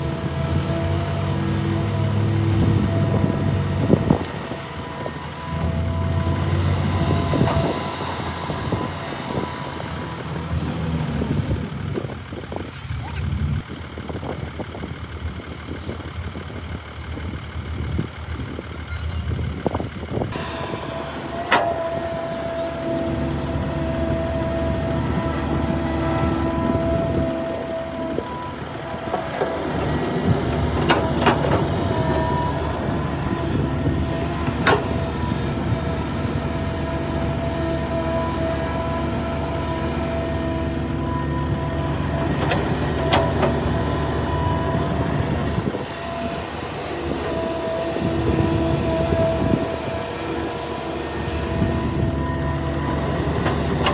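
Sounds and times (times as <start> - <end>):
diesel engines under load: 0.0 - 53.9.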